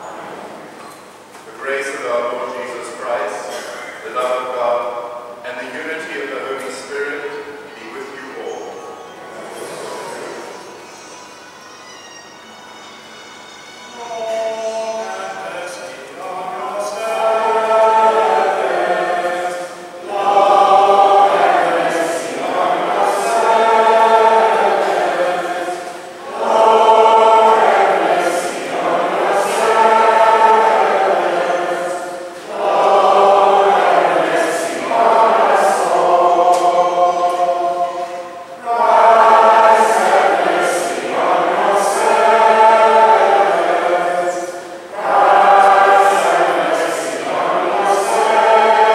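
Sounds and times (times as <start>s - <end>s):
congregation singing: 0.0s - 48.9s.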